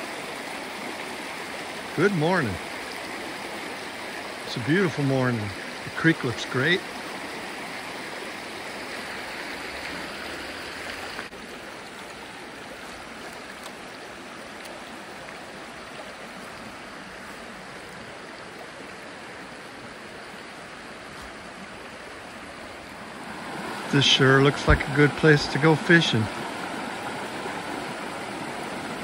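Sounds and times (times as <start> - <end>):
creek water babbling over rocks: 0.0 - 29.0.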